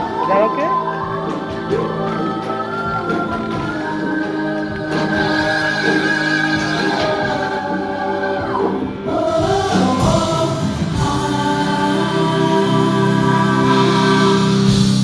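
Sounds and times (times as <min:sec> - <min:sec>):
band playing: 0:00.0 - 0:15.0
voices singing together: 0:00.0 - 0:15.0.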